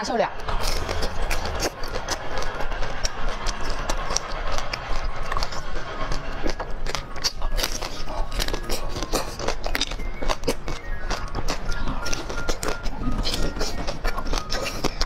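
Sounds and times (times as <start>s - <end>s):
biting and chewing ice cream: 0.0s - 15.0s
wet mouth sounds: 0.3s - 15.0s.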